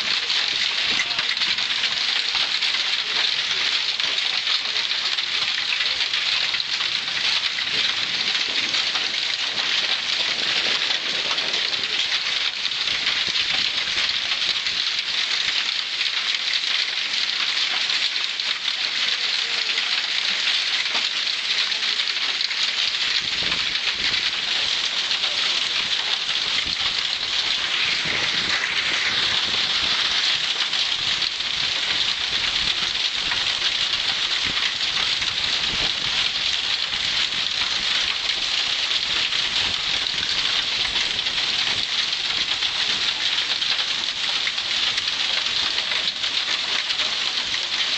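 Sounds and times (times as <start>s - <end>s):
heavy rain pelting down: 0.0s - 47.9s.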